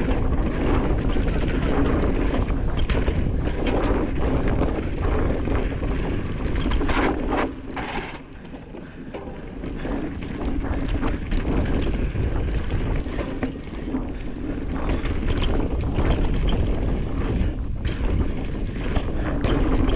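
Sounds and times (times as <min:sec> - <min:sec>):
bike clicks and rattles: 0:00.0 - 0:19.9
bike tyres rolling on dirt: 0:00.0 - 0:19.9
wind on microphone: 0:00.0 - 0:19.9.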